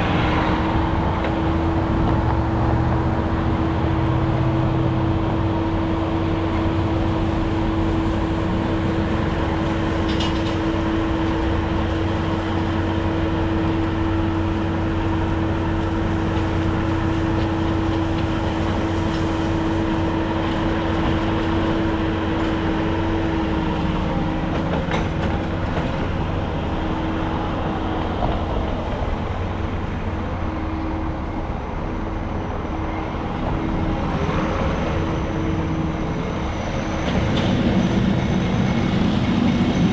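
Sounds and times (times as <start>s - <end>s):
constant hum: 0.0s - 39.9s
moving vehicle rumble: 0.0s - 39.9s.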